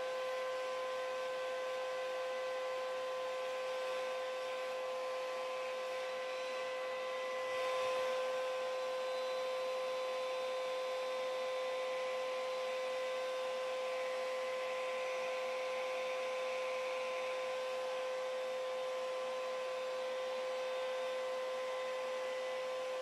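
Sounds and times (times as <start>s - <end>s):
hair dryer and vacuum whine: 0.0s - 23.0s.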